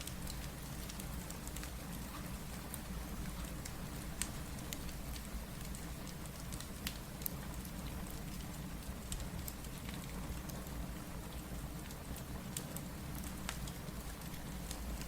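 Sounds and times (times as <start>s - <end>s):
steady rain falling: 0.0s - 15.0s
wood fire crackling: 0.0s - 15.0s.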